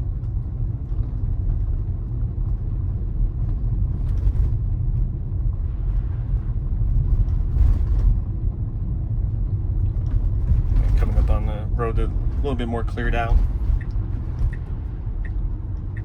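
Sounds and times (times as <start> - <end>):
road and tyre rumble in car cabin: 0.0 - 16.0.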